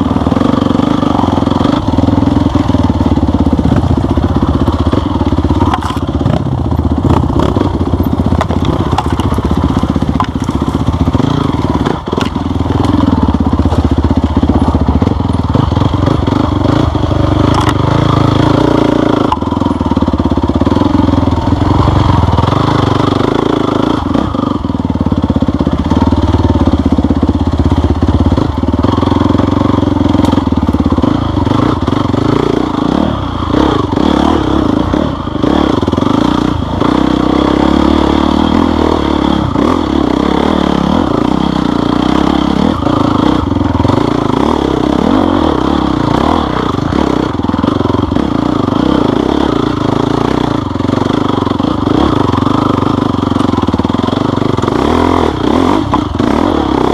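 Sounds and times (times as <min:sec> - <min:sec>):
clatter: 0:00.0 - 0:56.9
off-road vehicle engine running: 0:00.0 - 0:56.9.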